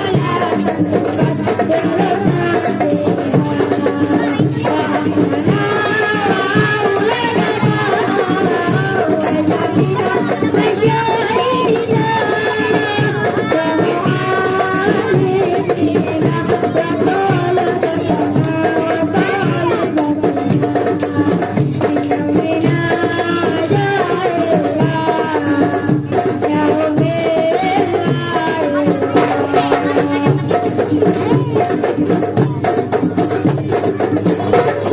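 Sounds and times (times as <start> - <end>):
hand drums: 0.0 - 34.9
jingling tambourine: 0.0 - 34.9.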